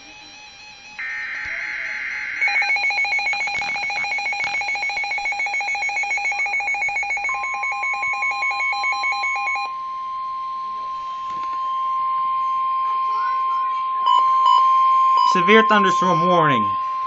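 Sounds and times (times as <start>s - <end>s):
harsh digital data buzzing: 0.0s - 9.7s, 12.0s - 17.0s
pulsing electronic alarm beep: 0.0s - 9.7s, 11.5s - 17.0s
steady alarm tone: 0.0s - 17.0s.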